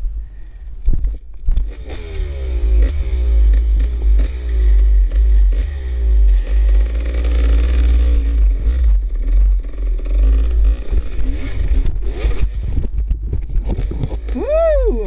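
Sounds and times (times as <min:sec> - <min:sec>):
dirt bike engine revving: 0:01.6 - 0:15.0.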